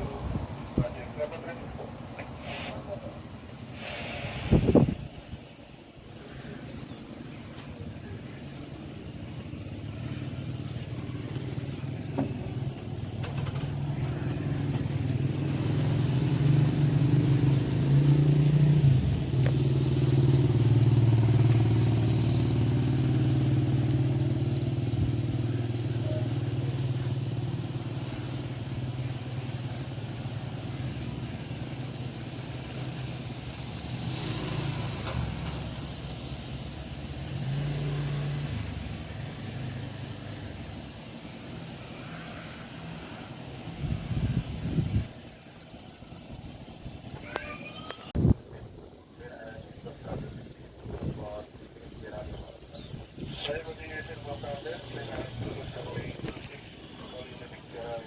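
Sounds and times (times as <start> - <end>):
engine humming: 0.0 - 58.0.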